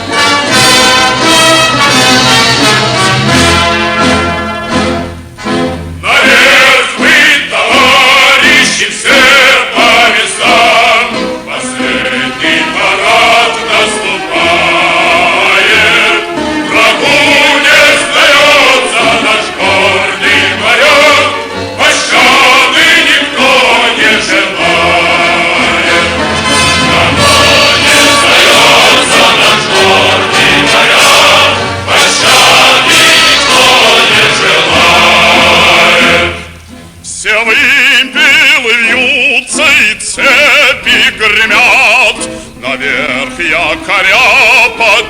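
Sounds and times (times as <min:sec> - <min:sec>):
instrumental accompaniment: 0:00.0 - 0:45.0
male choir singing: 0:06.0 - 0:45.0.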